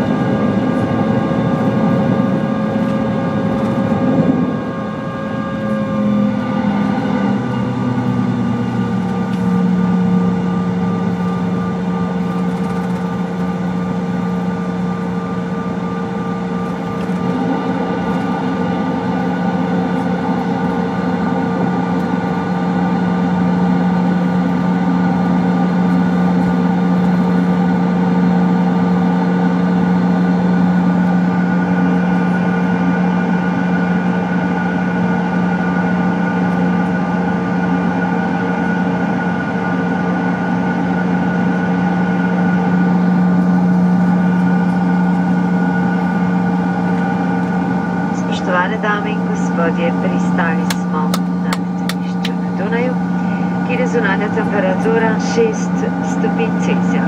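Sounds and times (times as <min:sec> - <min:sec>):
jet engines humming and whining: 0:00.0 - 0:57.0.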